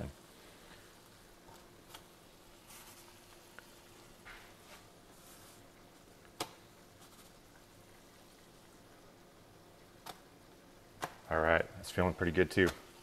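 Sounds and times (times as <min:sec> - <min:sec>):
faint hum: 0:00.0 - 0:13.0
tortilla rustling on stove: 0:00.2 - 0:11.3.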